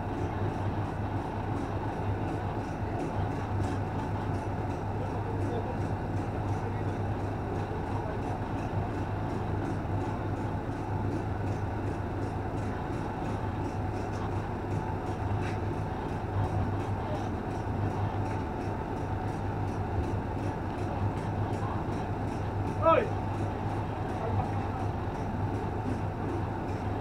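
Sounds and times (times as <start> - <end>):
truck engine and road noise: 0.0 - 27.0.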